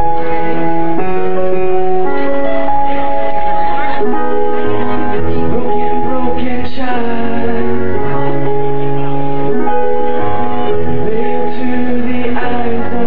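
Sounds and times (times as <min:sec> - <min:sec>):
acoustic band playing: 0:00.0 - 0:13.0.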